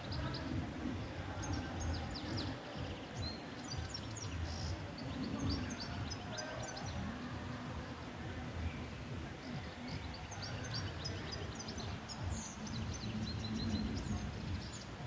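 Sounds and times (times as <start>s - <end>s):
goldfinch twittering song: 0.0s - 15.0s.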